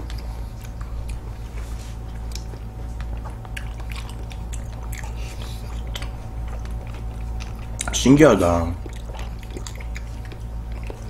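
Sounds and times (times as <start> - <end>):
wet squishy chewing: 0.0 - 11.0.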